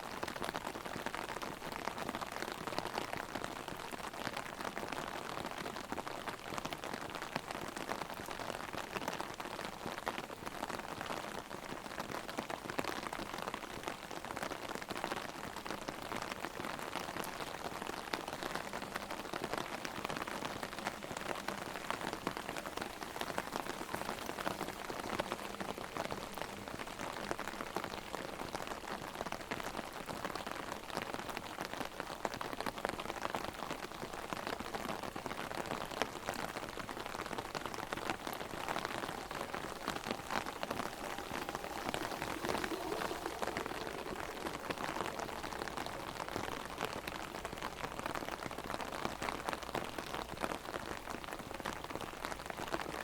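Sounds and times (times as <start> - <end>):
rain drumming on umbrella: 0.0 - 53.0.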